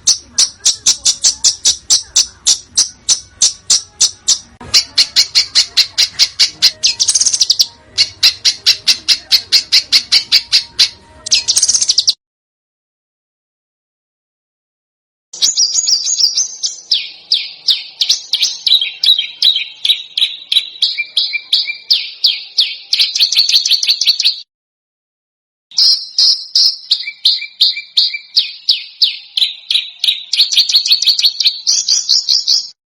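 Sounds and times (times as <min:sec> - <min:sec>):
songbird rapid high-pitched notes: 0:00.0 - 0:12.2, 0:15.4 - 0:24.4, 0:25.7 - 0:32.8.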